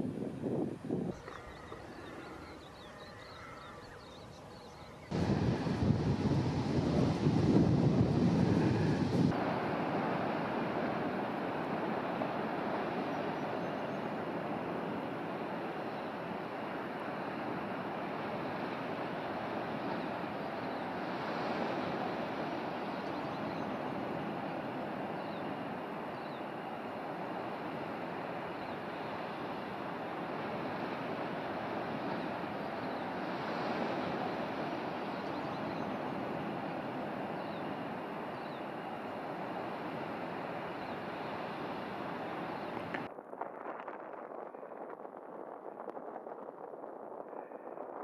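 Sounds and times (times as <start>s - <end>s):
ocean surf: 0.0s - 43.1s.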